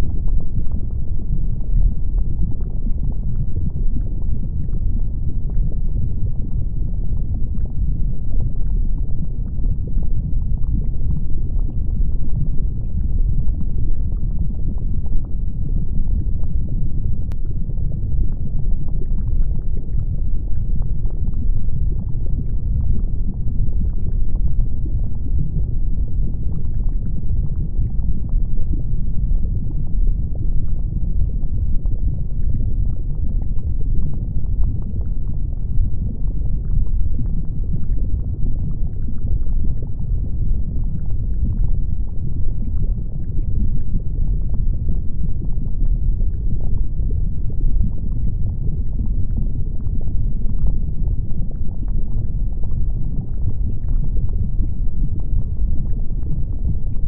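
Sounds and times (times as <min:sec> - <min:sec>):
deep volcanic rumble: 0:00.0 - 0:57.0
lava crackles and pops: 0:00.0 - 0:57.0.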